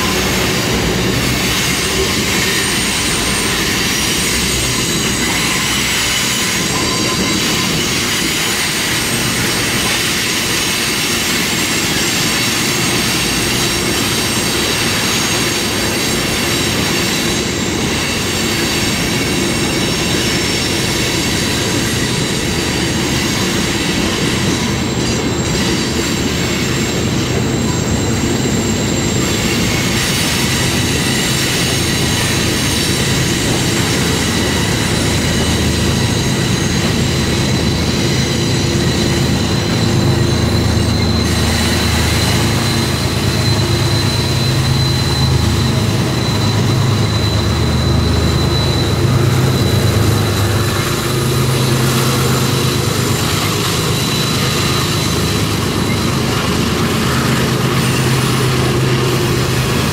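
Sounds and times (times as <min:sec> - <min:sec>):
diesel locomotive engine hum: 0:00.0 - 0:59.9
freight train wheels on rails: 0:00.0 - 0:59.9
high wheel squeal: 0:00.0 - 0:59.9.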